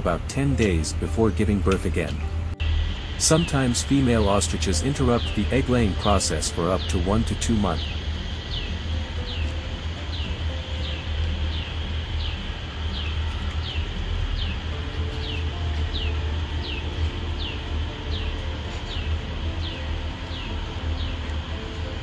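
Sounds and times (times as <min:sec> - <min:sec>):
low hum: 0:00.0 - 0:22.0
bird chirping: 0:02.0 - 0:21.4.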